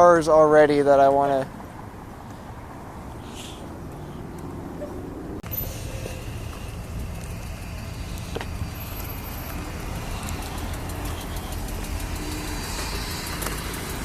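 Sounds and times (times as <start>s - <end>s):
car engine low rumble: 1.4s - 14.0s.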